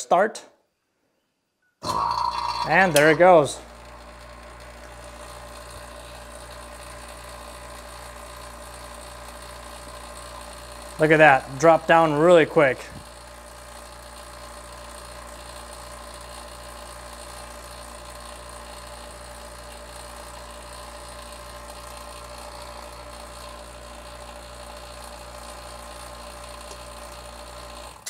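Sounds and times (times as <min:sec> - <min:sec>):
vacuum pump humming with pulse: 0:01.8 - 0:28.0.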